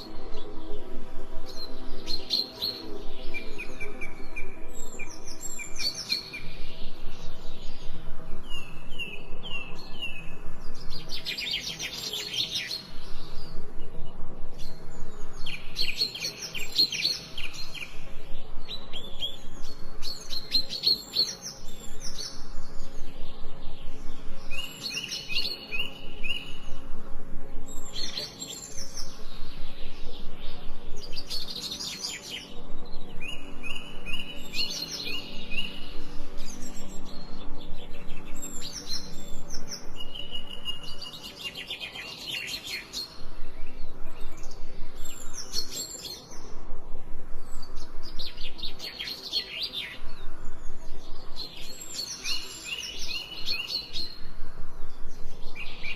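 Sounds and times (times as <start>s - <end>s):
faint low drone: 0.0s - 55.9s
songbird singing: 0.0s - 55.9s.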